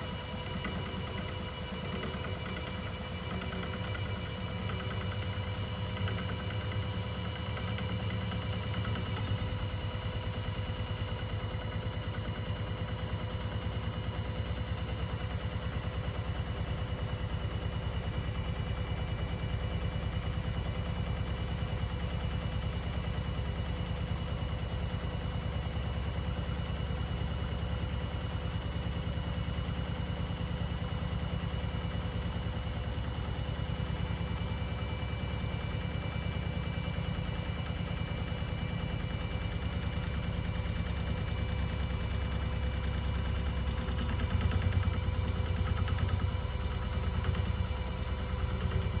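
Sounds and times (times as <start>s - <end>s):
milling machine spindle whining: 0.0s - 49.0s.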